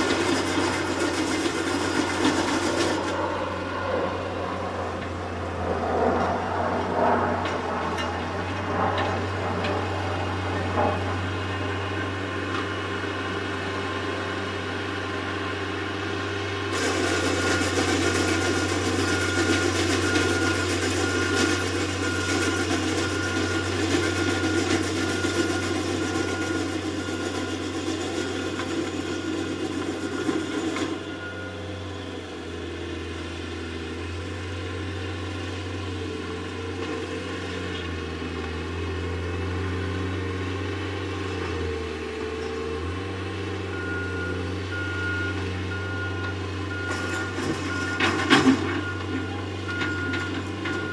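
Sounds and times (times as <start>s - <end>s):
diesel heavy equipment engines: 0.0s - 50.9s.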